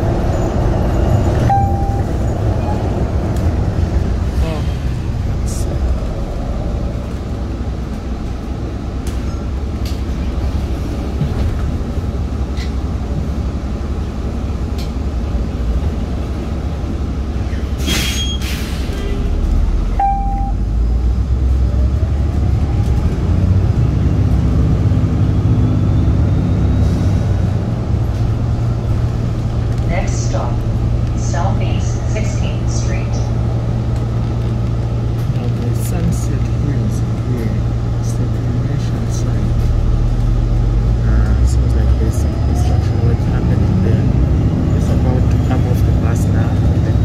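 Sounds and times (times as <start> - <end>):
bus engine rumble: 0.0 - 47.0.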